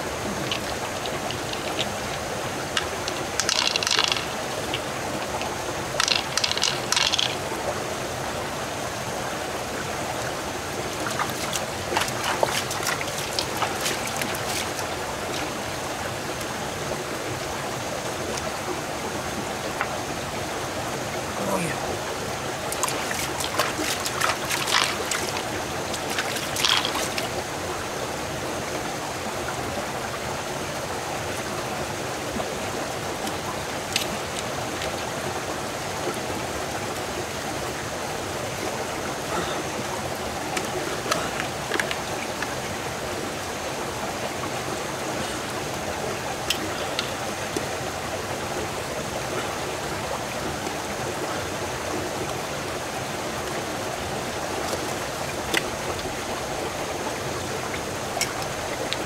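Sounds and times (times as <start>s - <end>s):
river running over rocks: 0.0s - 59.0s.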